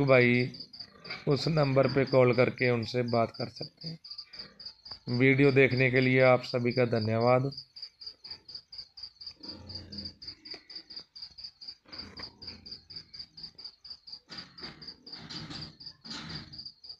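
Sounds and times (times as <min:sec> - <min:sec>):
cricket chirping: 0:00.0 - 0:16.9.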